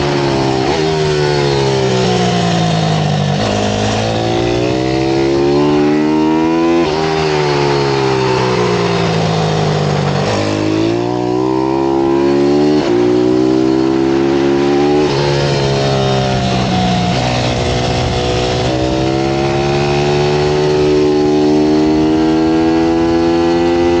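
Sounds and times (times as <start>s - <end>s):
pit bike engine accelerating: 0.0s - 24.0s.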